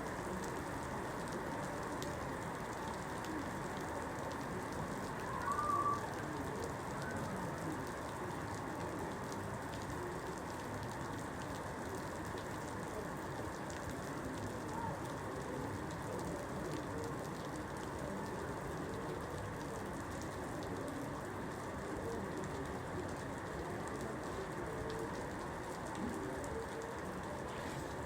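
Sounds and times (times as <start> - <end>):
individual raindrops ticking: 0.0 - 28.0
rain falling: 0.0 - 28.0.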